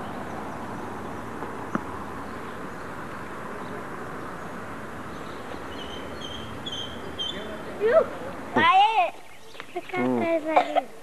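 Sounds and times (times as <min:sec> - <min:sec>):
bird chirping: 0:00.0 - 0:08.2, 0:09.1 - 0:10.2
outdoor background noise: 0:00.0 - 0:11.0.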